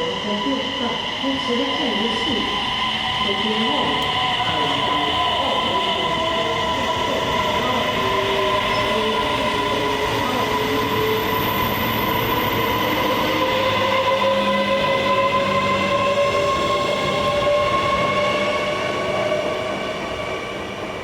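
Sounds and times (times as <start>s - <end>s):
electric train whine and rumble: 0.0s - 21.0s.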